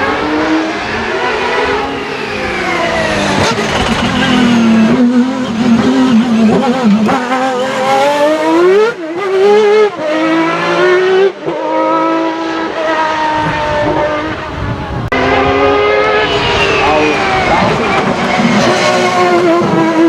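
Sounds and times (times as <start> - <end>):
engine accelerating hard with upshifts: 0.0 - 20.0.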